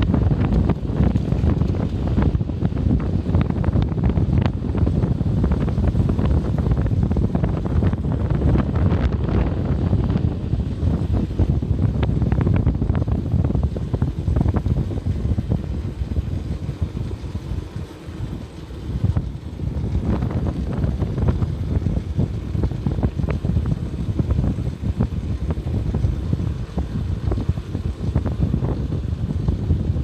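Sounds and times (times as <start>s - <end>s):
vehicle rumble: 0.0s - 30.0s
wind buffeting microphone: 0.0s - 30.0s.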